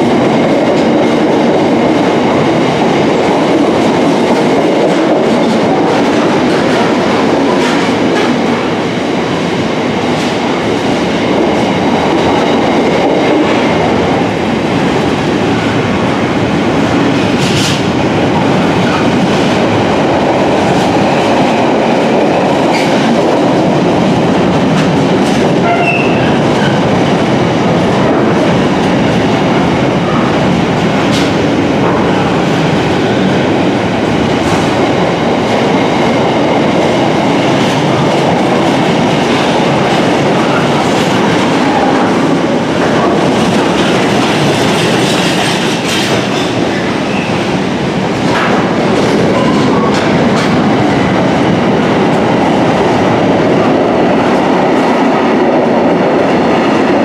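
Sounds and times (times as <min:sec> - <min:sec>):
train wagons rumbling and rattling: 0:00.0 - 0:57.0.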